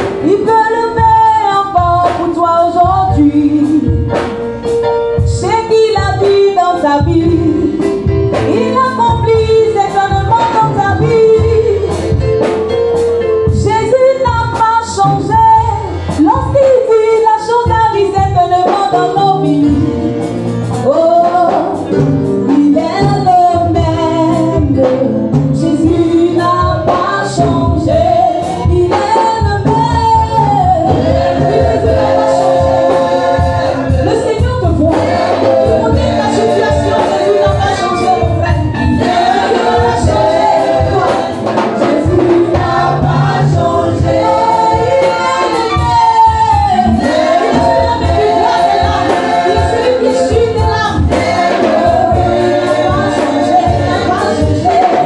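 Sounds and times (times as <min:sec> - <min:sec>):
women singing gospel song: 0:00.0 - 0:04.4, 0:05.2 - 0:12.5, 0:13.4 - 0:55.0
steady drum beat: 0:00.0 - 0:55.0.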